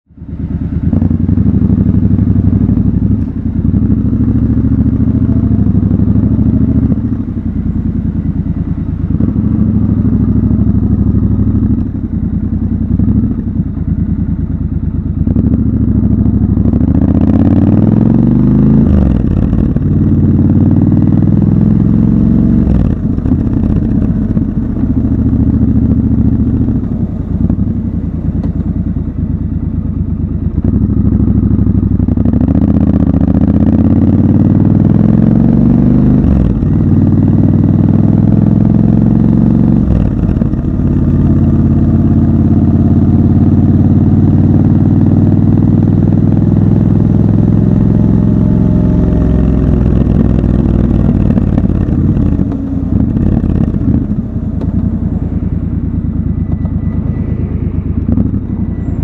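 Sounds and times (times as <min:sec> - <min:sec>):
motorcycle engine running: 0:00.1 - 0:59.0.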